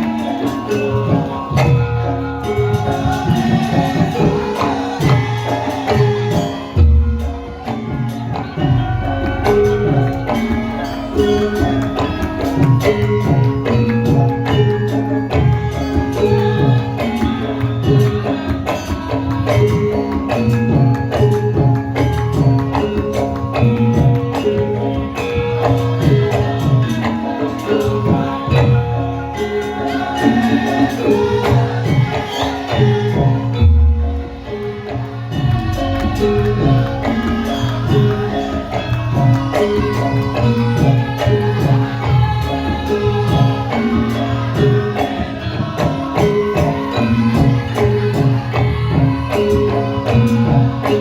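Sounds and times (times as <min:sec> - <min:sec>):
gamelan music: 0:00.0 - 0:51.0
steady percussion beat: 0:00.0 - 0:51.0.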